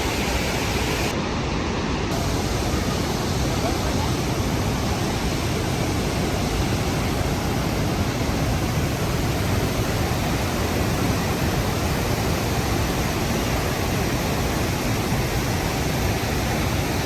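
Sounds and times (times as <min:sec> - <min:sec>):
waterfall rushing: 0:00.0 - 0:01.2, 0:02.1 - 0:17.0.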